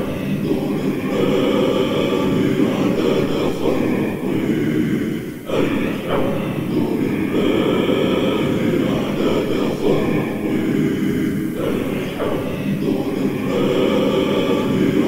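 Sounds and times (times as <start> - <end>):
droning chant of held voices: 0.0 - 15.0.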